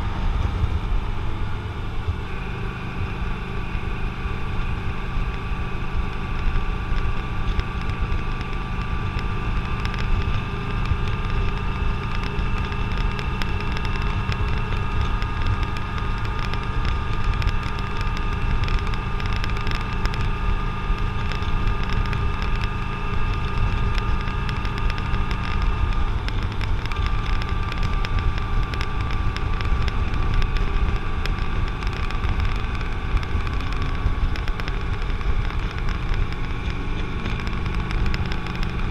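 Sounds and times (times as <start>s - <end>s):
motorcycle engine drone: 0.0s - 38.9s
wind rumble on microphone: 0.0s - 38.9s.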